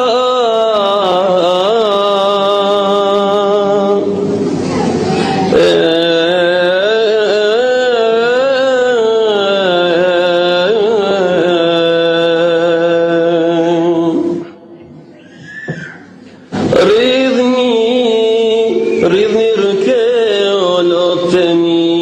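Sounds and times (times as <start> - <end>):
man chanting into a microphone: 0.0 - 4.3, 5.5 - 14.8, 16.6 - 22.0.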